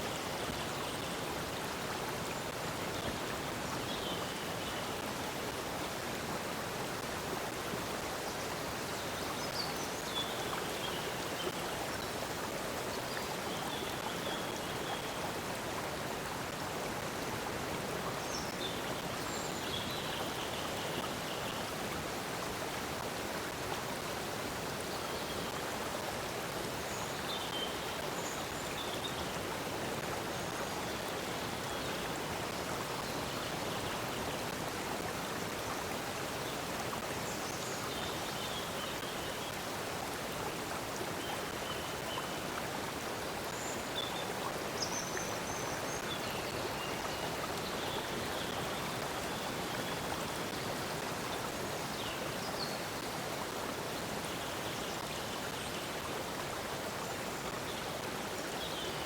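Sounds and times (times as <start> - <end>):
stream of water flowing: 0.0 - 59.0.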